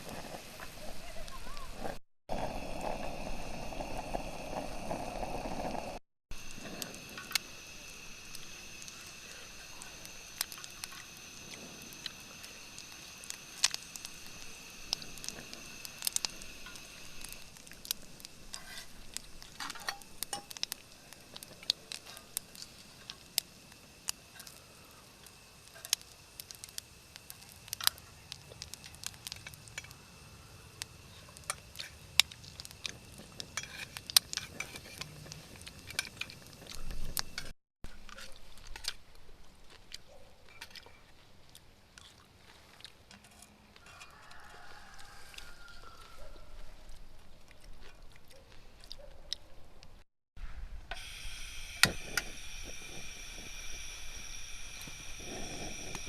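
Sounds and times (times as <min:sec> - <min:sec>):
faint high-pitched hiss: 0:00.0 - 0:39.8, 0:50.4 - 0:56.0
campfire crackling and popping: 0:00.0 - 0:56.0.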